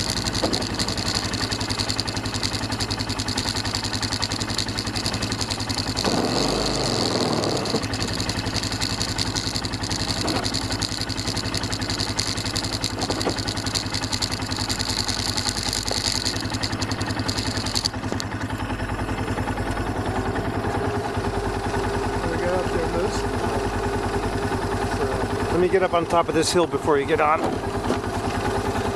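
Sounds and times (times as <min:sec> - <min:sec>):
atv engine idling: 0:00.0 - 0:28.9.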